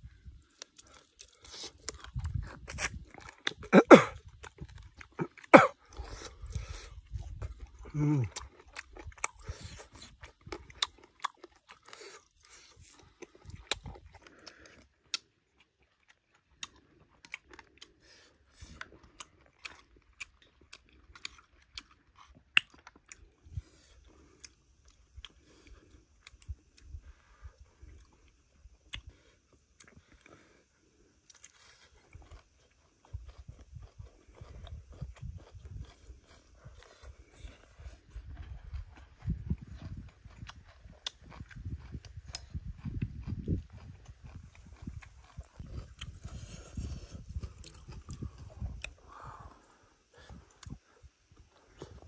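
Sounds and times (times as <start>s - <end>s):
wet chewing sounds: 0.1s - 52.0s.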